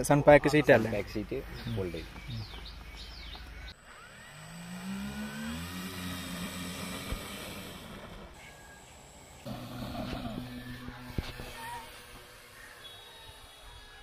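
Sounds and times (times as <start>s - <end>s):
electric motors and propellers whirring: 1.8s - 14.0s.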